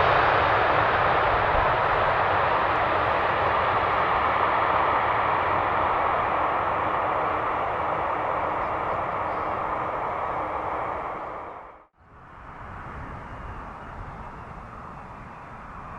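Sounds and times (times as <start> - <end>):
jet airliner engine rushing: 0.0 - 15.9.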